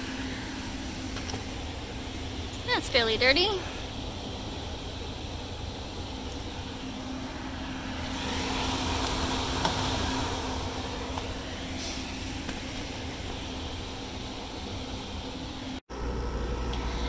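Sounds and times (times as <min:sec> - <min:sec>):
rushing noise: 0:00.0 - 0:15.8
mechanical hum: 0:00.0 - 0:17.0.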